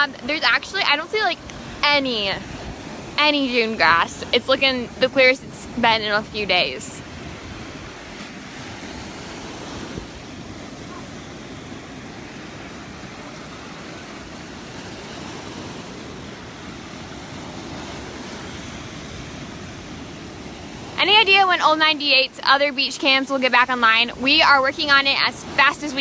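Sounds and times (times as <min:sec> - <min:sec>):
surf washing onto beach: 0:00.0 - 0:26.0
wind on microphone: 0:00.0 - 0:26.0.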